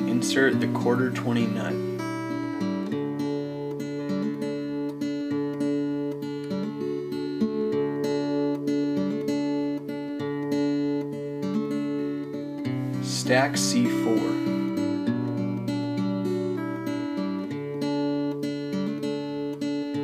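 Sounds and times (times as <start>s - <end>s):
acoustic guitar picking and strumming: 0.0s - 20.0s.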